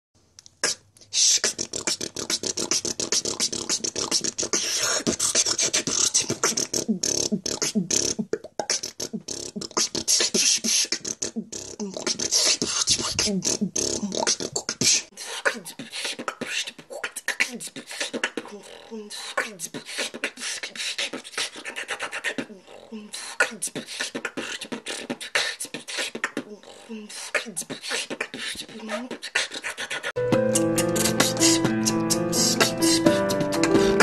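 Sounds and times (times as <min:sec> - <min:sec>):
person beatboxing: 0:00.6 - 0:34.0.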